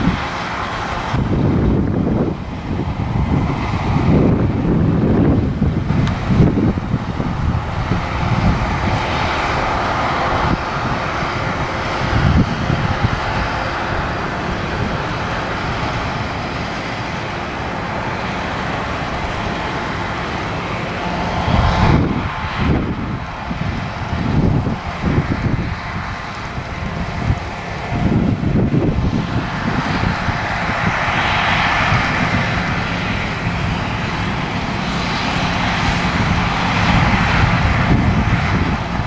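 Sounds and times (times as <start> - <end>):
combine harvester running: 0.0 - 39.0
wind buffeting microphone: 0.0 - 39.0.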